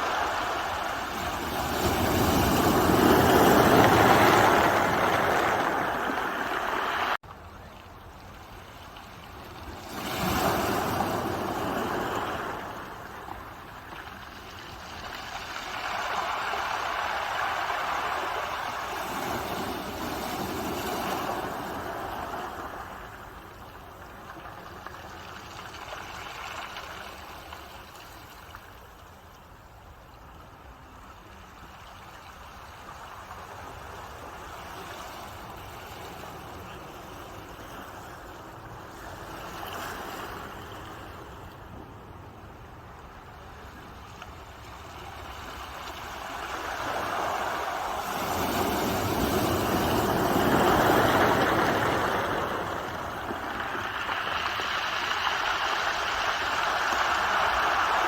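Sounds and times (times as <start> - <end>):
ocean waves breaking on shore: 0.0 - 7.2, 8.0 - 29.4, 30.2 - 58.0.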